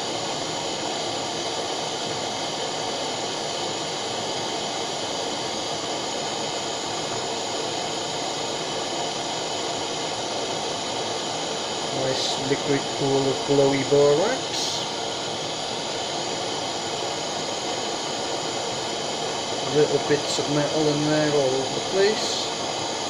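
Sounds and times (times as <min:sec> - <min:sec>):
blowtorch flame hissing: 0:00.0 - 0:23.0.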